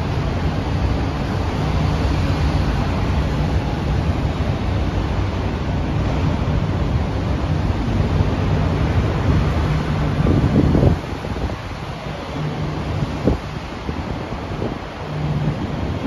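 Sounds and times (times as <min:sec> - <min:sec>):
electric train traction hum: 0:00.0 - 0:16.0.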